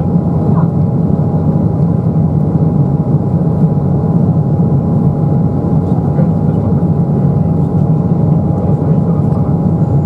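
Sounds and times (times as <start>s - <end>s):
airliner cabin noise: 0.0s - 10.0s
faint steady whine: 0.0s - 10.0s.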